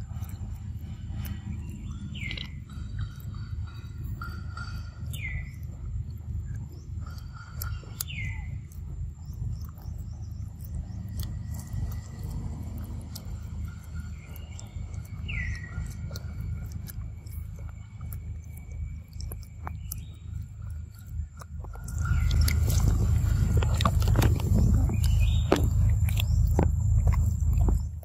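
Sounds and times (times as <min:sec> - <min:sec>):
low steady rumble: 0:00.0 - 0:28.0
monkey chewing wet smacking: 0:00.0 - 0:28.0.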